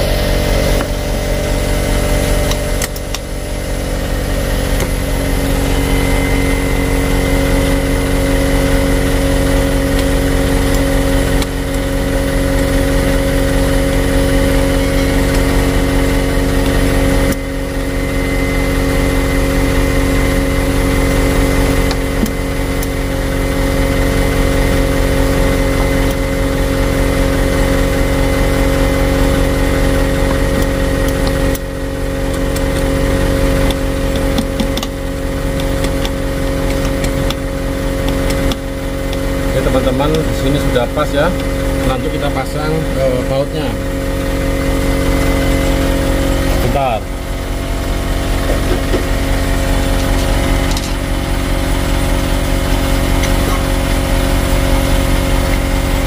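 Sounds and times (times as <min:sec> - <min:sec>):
engine humming steadily: 0:00.0 - 0:56.0.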